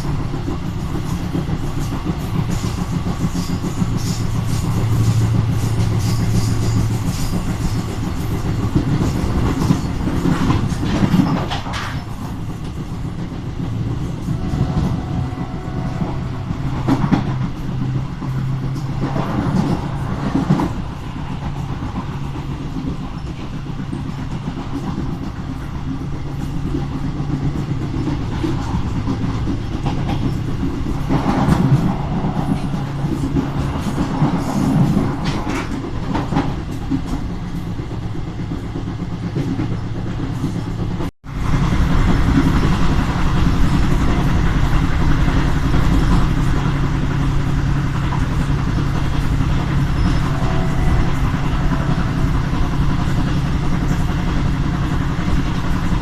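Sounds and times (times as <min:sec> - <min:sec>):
train wheel clicks: 0:00.0 - 0:56.0
train wheels rumbling on rail: 0:00.0 - 0:56.0.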